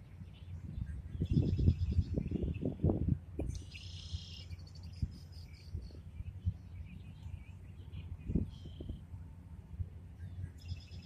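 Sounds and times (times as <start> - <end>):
birds chirping: 0.0 - 9.4, 10.0 - 11.0
wind buffeting microphone: 0.0 - 11.0.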